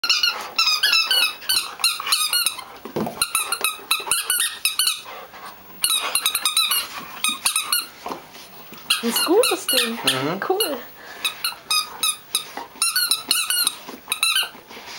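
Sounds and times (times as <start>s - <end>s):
squeaky toy squeaks: 0.0s - 2.6s, 3.2s - 5.0s, 5.8s - 7.9s, 8.9s - 14.5s.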